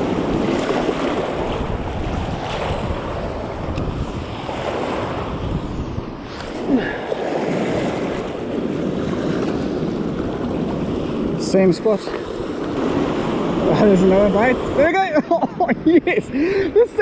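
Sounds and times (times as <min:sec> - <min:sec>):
sea water sloshing: 0:00.0 - 0:14.8
wind buffeting microphone: 0:00.0 - 0:17.0.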